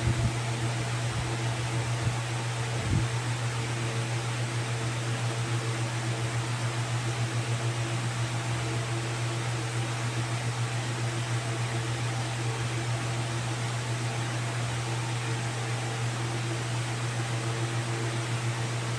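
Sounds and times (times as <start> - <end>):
low mechanical hum with hiss: 0.0 - 18.9.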